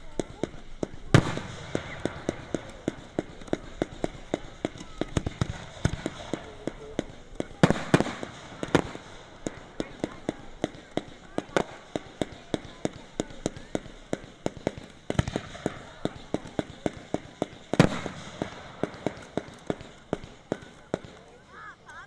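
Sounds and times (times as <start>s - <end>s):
fireworks popping and banging: 0.0s - 22.0s.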